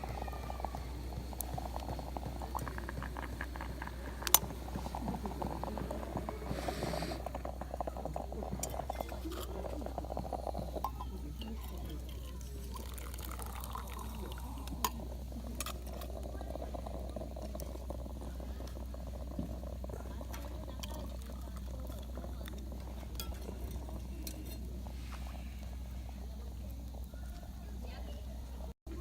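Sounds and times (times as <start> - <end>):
campfire crackling and popping: 0.0 - 28.6.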